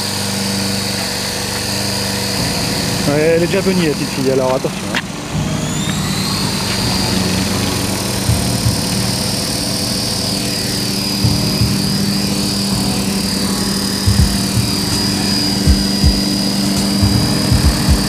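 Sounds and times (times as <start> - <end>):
electric motor whine: 0.0 - 18.0
rotor whir: 0.0 - 18.0.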